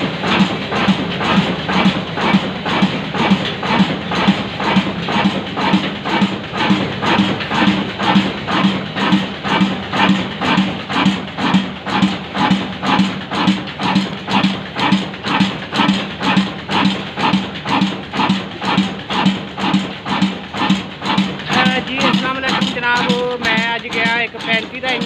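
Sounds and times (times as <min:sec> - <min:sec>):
diesel engine heavy beat: 0:00.0 - 0:25.0
mill machinery hum: 0:00.0 - 0:25.0.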